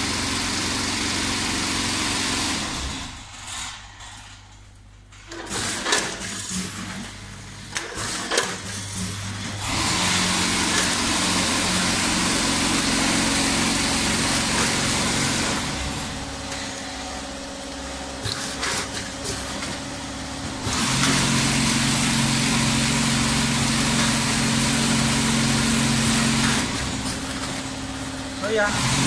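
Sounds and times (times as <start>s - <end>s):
packing machine humming: 0.0s - 29.0s.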